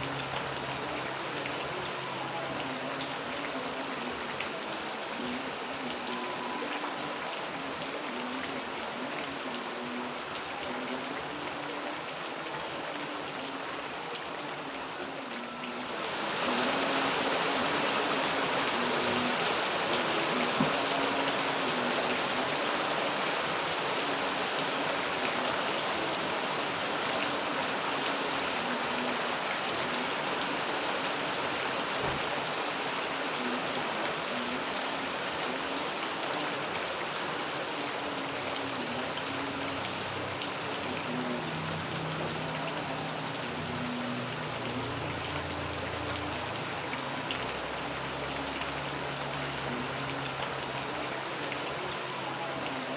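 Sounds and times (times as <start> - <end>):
steady rainfall: 0.0 - 52.9.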